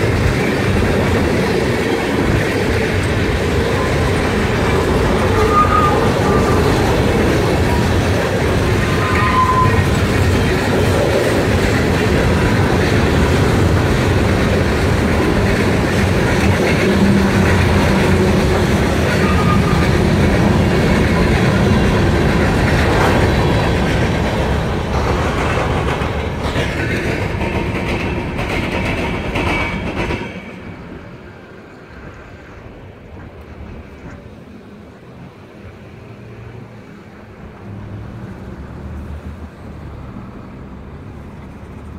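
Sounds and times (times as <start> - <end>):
freight train cars rolling past: 0.0 - 41.9.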